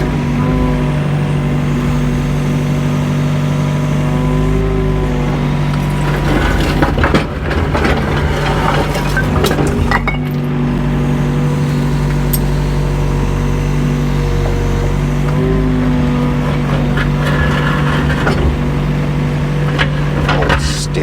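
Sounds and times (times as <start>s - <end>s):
mini excavator engine whining: 0.0s - 21.0s.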